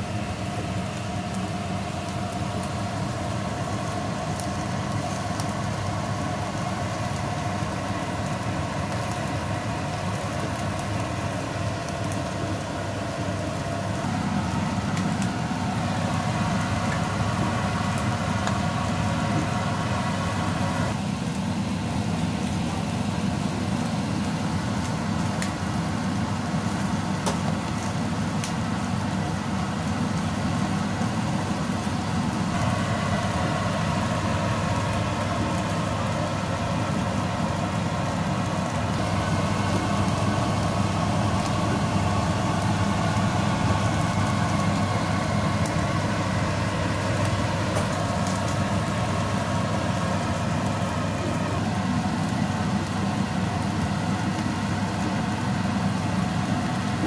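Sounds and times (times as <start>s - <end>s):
chicken sizzling on a grill: 0.0s - 57.0s
low mechanical hum: 0.0s - 57.0s.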